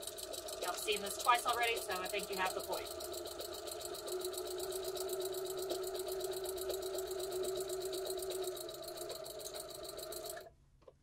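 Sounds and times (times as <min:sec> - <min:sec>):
electric sewing machine stitching: 0:00.0 - 0:10.5.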